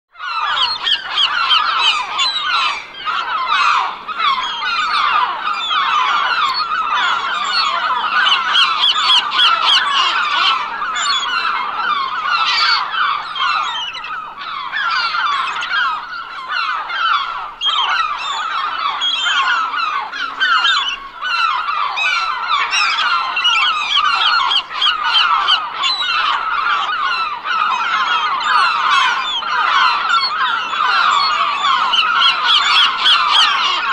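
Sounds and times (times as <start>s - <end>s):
flock of gulls calling: 0.1s - 33.9s.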